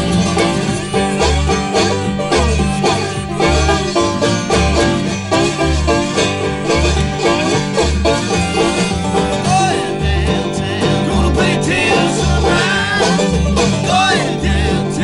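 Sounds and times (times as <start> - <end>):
banjo picking: 0.0 - 15.0
strummed acoustic guitar: 0.0 - 15.0
upright bass: 0.0 - 15.0.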